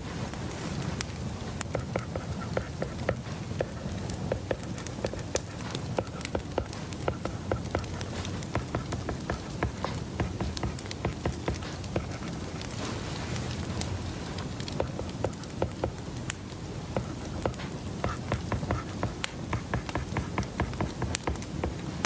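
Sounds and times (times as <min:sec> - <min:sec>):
light clicks and taps: 0:00.5 - 0:22.0.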